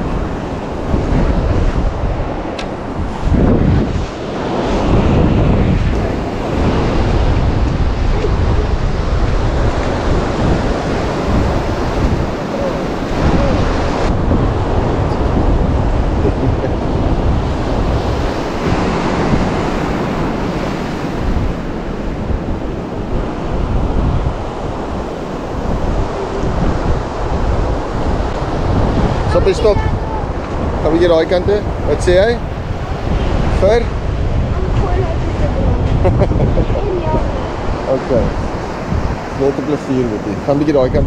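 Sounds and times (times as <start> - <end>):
ocean surf washing ashore: 0.0 - 41.0
wind buffeting microphone: 0.0 - 41.0.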